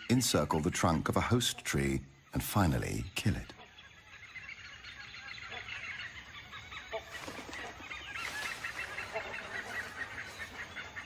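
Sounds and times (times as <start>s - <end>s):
lower louder bird calls: 0.0s - 11.0s.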